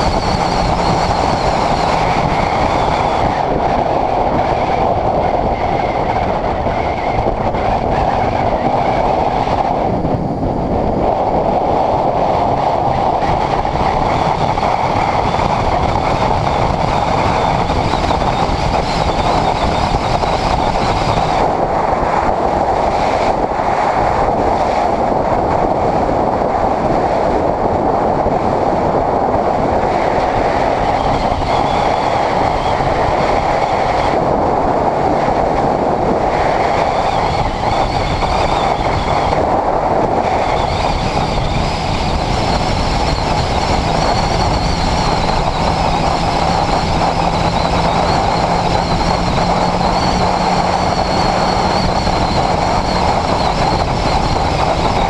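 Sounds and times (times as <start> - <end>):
motorcycle engine cruising: 0.0 - 55.0
road noise: 0.0 - 55.0
wind rushing: 0.0 - 55.0.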